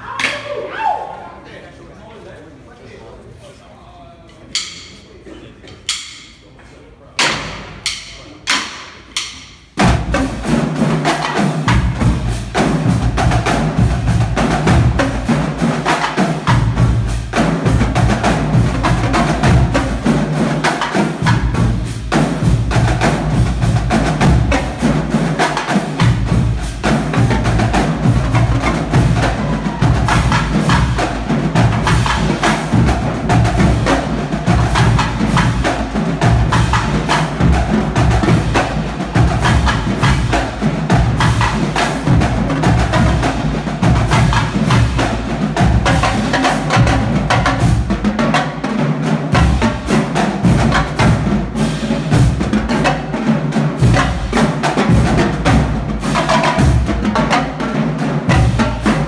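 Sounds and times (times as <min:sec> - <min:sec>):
marching drumline cadence: 0:04.5 - 0:59.0.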